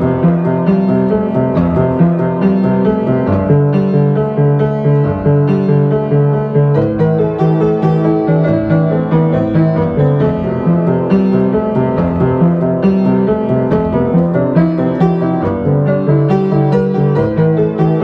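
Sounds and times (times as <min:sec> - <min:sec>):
solo piano playing: 0:00.0 - 0:18.0.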